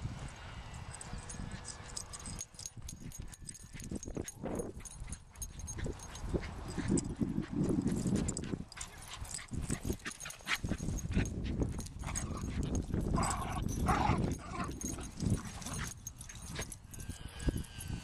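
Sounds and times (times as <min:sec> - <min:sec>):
small dogs yipping and barking: 0:00.9 - 0:17.5.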